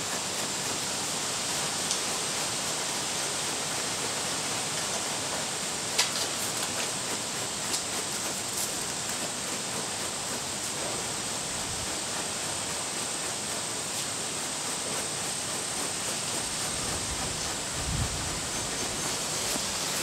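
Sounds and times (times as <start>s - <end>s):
brush rustling through dog's coat: 0.0s - 20.0s.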